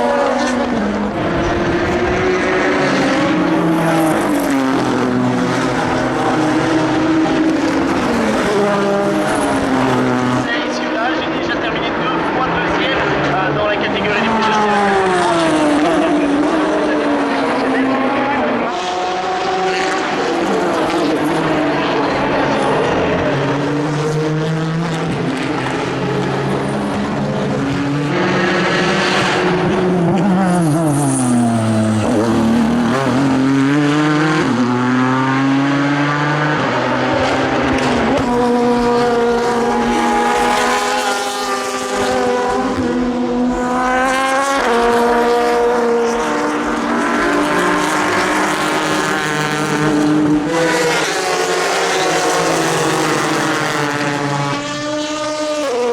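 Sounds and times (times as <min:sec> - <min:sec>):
race car engines running hard: 0:00.0 - 0:55.9.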